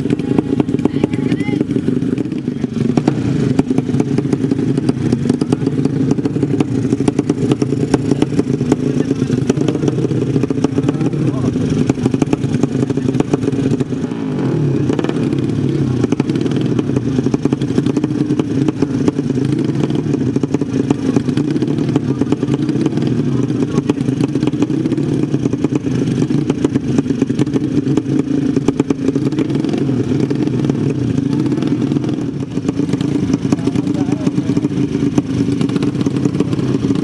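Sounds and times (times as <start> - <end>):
motorcycle engines crackling: 0.0 - 37.0.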